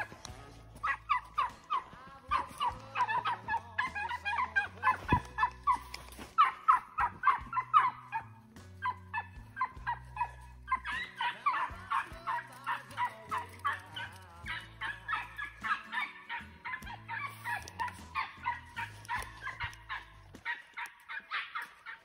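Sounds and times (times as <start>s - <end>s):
dogs yelping: 0.0s - 22.0s.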